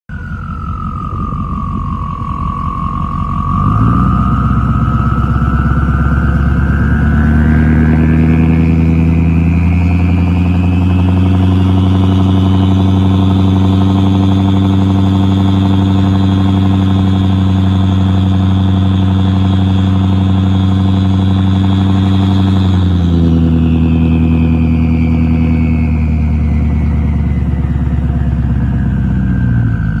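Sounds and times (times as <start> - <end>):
diesel engine revving: 0.1 - 30.0
turbo whistle: 0.1 - 30.0.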